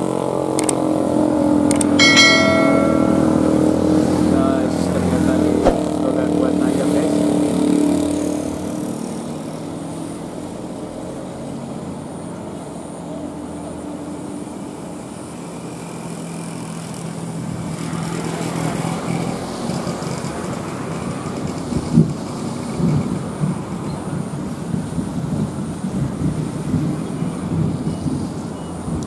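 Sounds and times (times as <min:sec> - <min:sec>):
passing cars and motorbikes: 0:00.0 - 0:12.5, 0:13.2 - 0:29.0.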